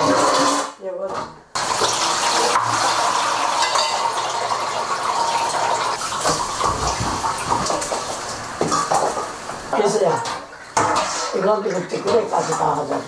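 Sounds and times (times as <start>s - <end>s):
water pouring into metal basin: 1.6s - 12.0s.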